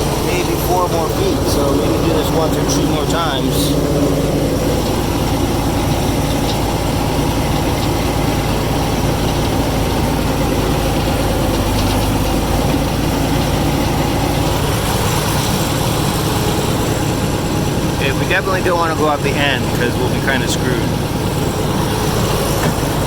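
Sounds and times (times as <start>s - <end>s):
heavy equipment engine running: 0.0s - 23.0s.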